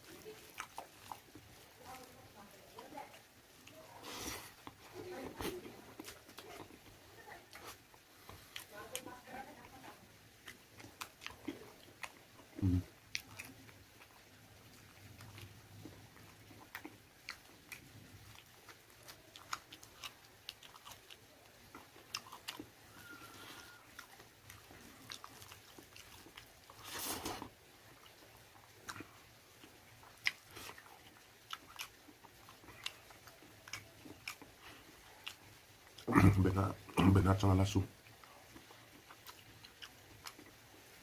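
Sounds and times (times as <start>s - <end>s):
person chewing and biting: 0.1s - 1.8s, 5.4s - 9.1s, 10.2s - 36.4s, 38.0s - 41.0s.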